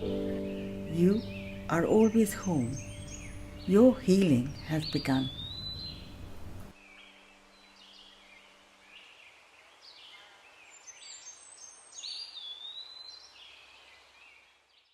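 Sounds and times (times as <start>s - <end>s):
faint birdsong chirping: 0.0s - 14.9s.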